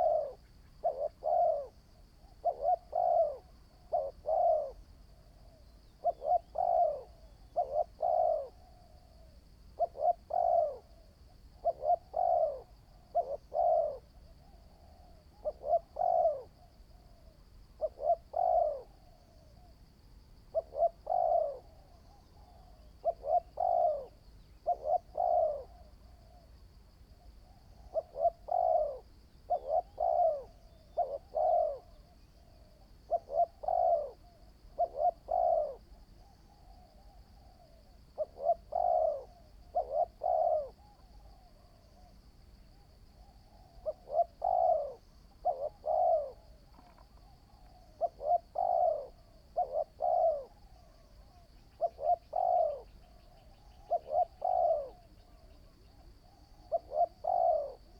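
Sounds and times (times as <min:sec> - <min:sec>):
dove cooing: 0:00.0 - 0:19.7, 0:20.5 - 0:26.5, 0:27.2 - 0:57.9.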